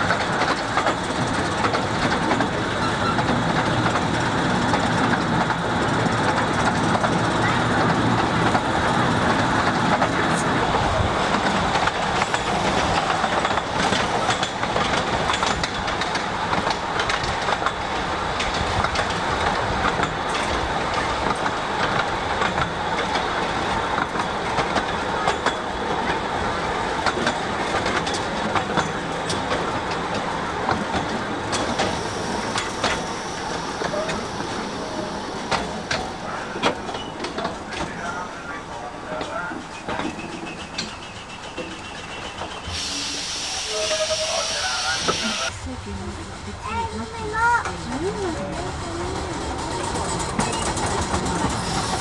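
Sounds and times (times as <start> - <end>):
train coaches rattling: 0.0 - 52.0
wheels clicking on track: 0.0 - 52.0.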